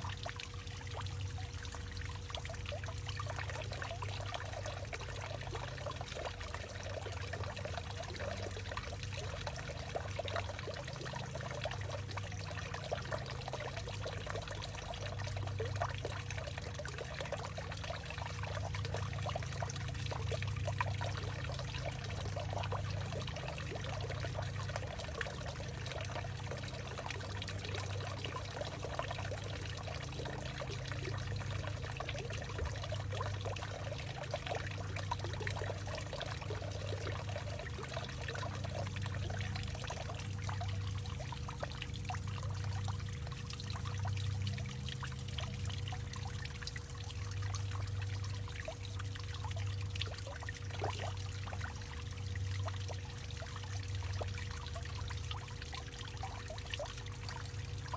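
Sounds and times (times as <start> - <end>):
steady low hum: 0.0 - 57.9
water trickling and splashing: 0.0 - 57.9.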